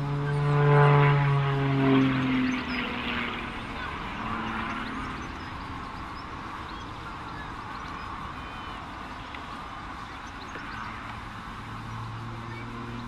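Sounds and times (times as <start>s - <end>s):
distant aircraft engine drone: 0.0s - 13.0s.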